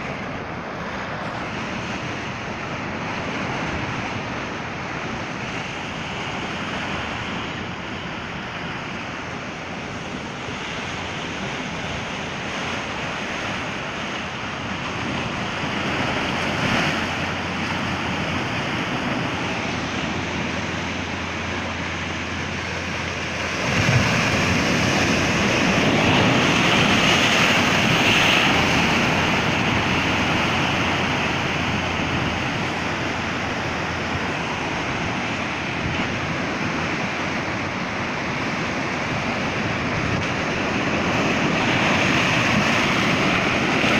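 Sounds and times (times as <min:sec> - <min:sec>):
ocean surf washing over rocks: 0:00.0 - 0:43.9.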